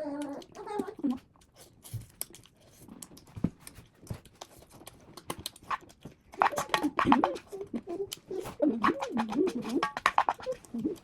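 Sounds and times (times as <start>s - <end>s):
eating crunches: 0.0s - 11.0s.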